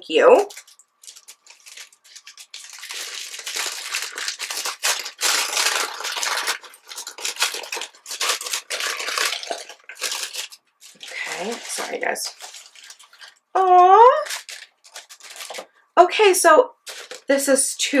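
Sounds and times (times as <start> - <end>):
paper bag crinkling: 0.3 - 15.8, 16.8 - 17.4.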